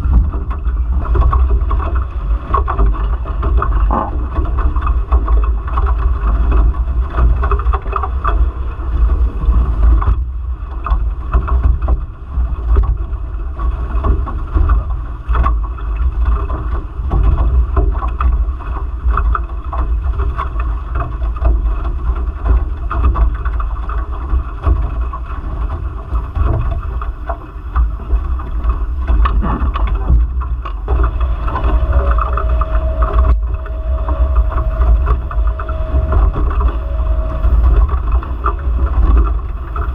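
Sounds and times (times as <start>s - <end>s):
steady hum: 0.0s - 39.9s
water rushing along hulls: 0.0s - 39.9s
wind buffeting microphone: 0.0s - 39.9s.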